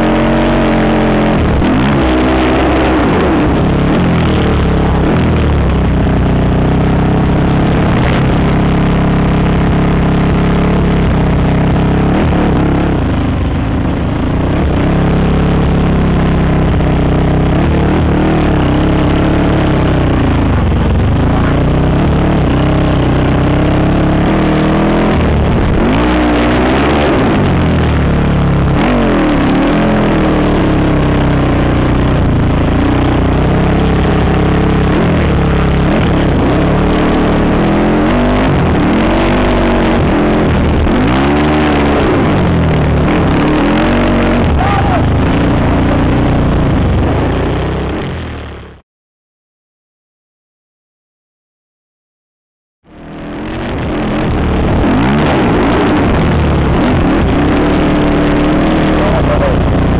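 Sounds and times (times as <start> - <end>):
quad engine revving: 0.0 - 48.8, 52.9 - 59.9.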